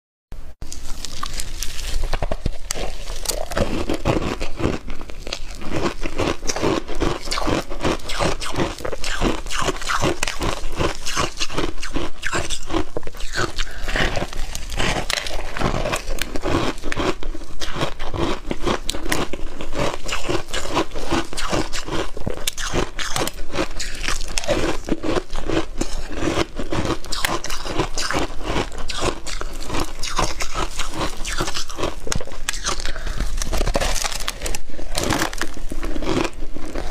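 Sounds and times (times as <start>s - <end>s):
ice being chewed and cracking: 0.6s - 36.9s.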